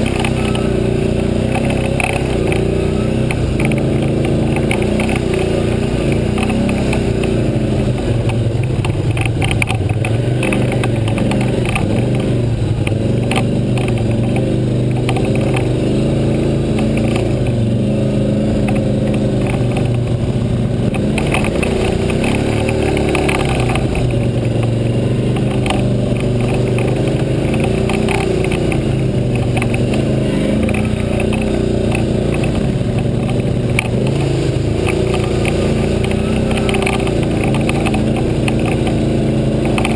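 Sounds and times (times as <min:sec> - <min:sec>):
atv engine revving: 0:00.0 - 0:39.9
clatter from bumps: 0:00.0 - 0:39.9.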